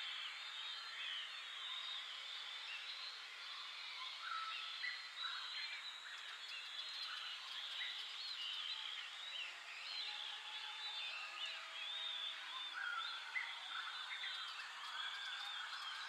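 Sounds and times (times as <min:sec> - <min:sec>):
many birds singing and calling: 0:00.0 - 0:16.0.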